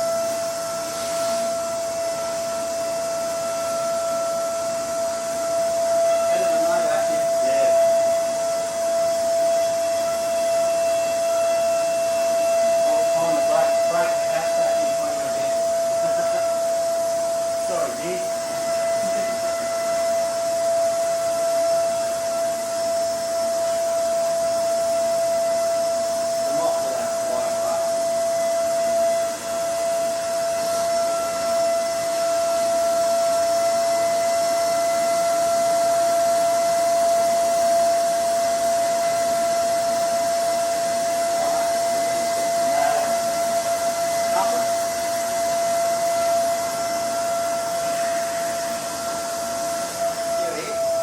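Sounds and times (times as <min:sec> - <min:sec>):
steady motor whine: 0:00.0 - 0:51.0.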